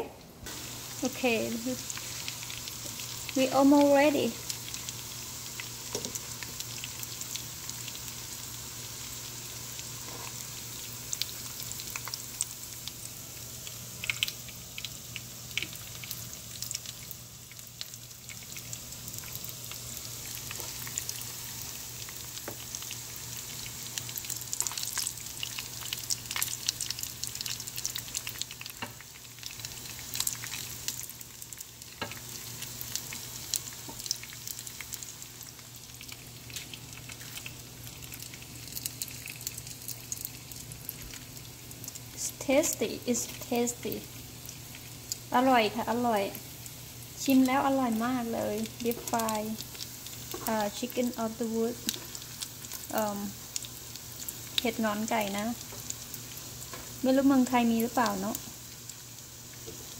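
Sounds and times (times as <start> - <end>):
food deep-frying in oil: 0.0 - 59.9
oil crackles and pops: 0.4 - 59.9.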